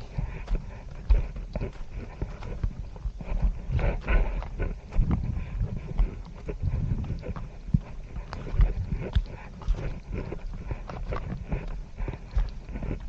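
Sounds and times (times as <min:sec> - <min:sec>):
footsteps on dirt trail: 0:00.0 - 0:13.0
hard breathing: 0:00.0 - 0:13.0.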